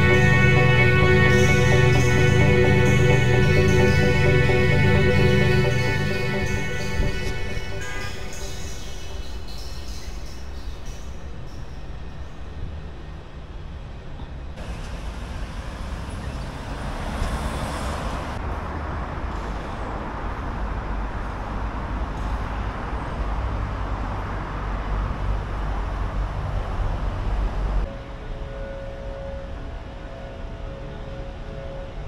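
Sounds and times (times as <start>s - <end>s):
cars passing: 0.0s - 13.4s, 14.6s - 27.9s
low traffic rumble: 0.0s - 28.3s.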